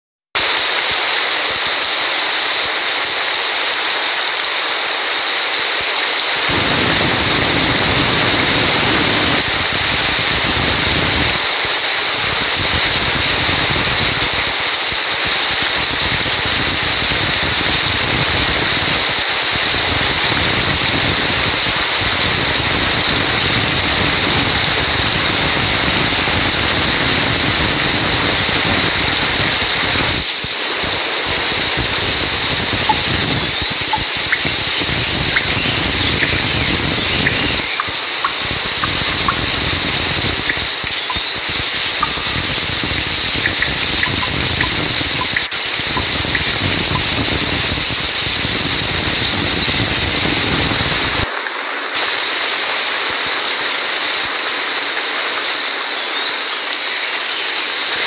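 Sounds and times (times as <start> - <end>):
heavy rain on foliage: 0.4 - 58.0.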